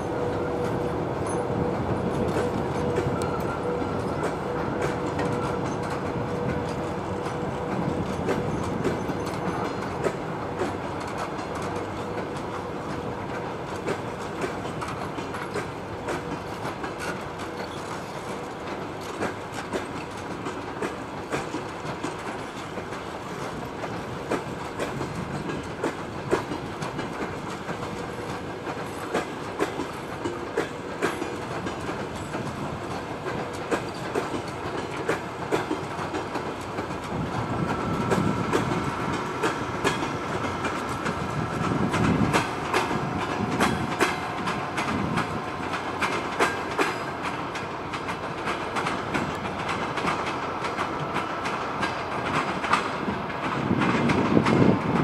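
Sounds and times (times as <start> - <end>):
train wheels clicking over joints: 0.0 - 55.0.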